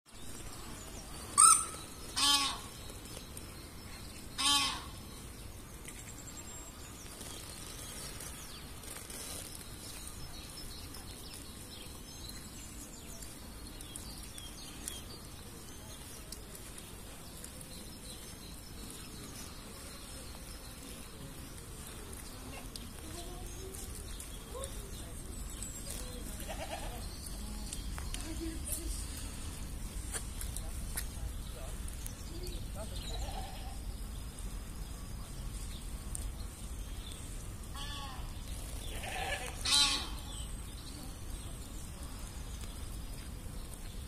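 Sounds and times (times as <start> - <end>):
birds calling: 0.1 - 44.0
faint bird chirping: 0.1 - 44.0.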